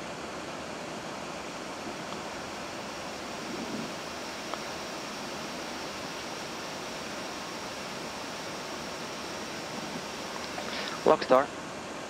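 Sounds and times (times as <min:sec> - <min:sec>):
cockpit air rushing hiss: 0:00.0 - 0:12.0.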